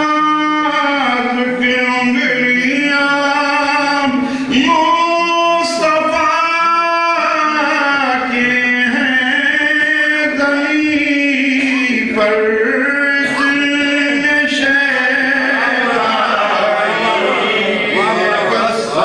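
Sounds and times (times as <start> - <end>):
man singing unaccompanied: 0.0 - 19.0.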